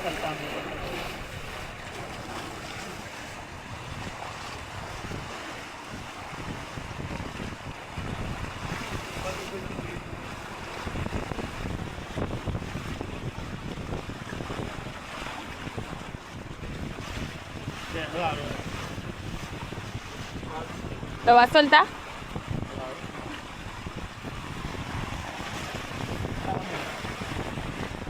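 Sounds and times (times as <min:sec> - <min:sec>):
sea water washing: 0:00.0 - 0:28.0
wind buffeting microphone: 0:00.0 - 0:28.0.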